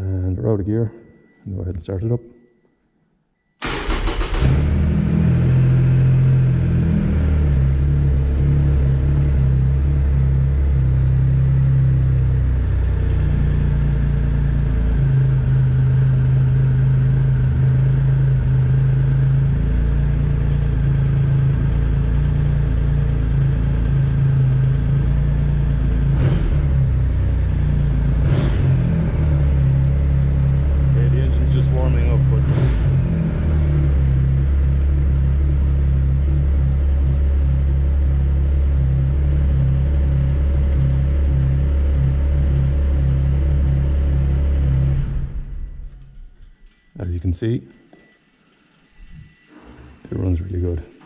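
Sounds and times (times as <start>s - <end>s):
motorcycle engine starting and idling: 3.6s - 46.8s.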